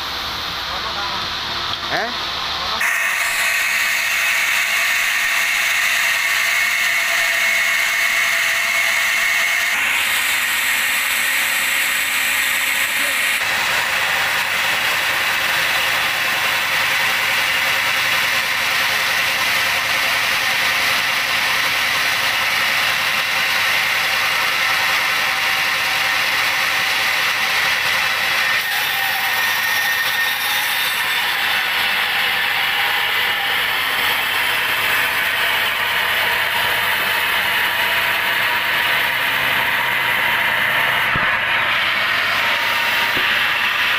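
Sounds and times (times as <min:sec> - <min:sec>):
band saw cutting log: 0:00.8 - 0:43.9.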